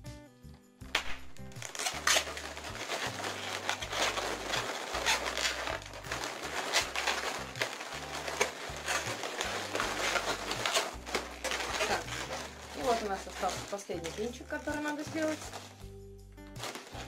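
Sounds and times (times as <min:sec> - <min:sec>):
balloons being twisted: 0:00.9 - 0:17.0.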